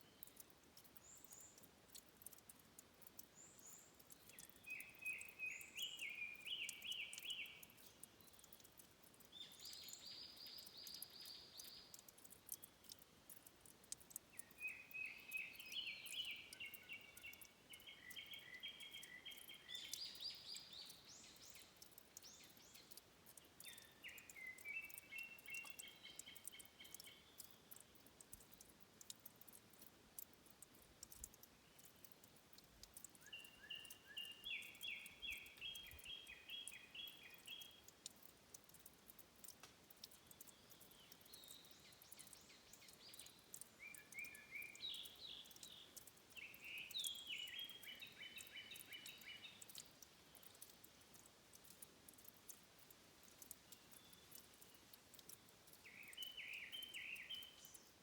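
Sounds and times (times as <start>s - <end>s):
tiny high clicks: 0.0s - 5.8s, 6.4s - 58.0s
soft hiss: 0.0s - 58.0s.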